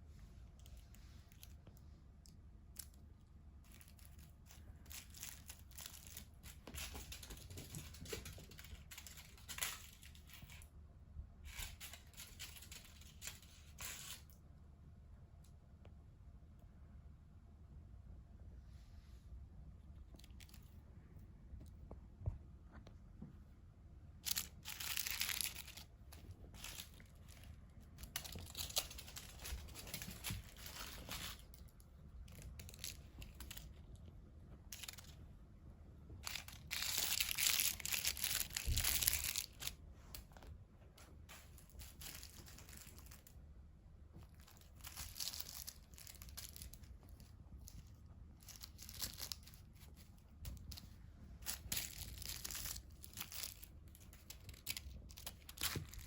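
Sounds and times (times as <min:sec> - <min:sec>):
crinkly cat toy rustling: 0:00.1 - 0:10.8, 0:11.4 - 0:14.4, 0:19.9 - 0:20.9, 0:24.2 - 0:56.0.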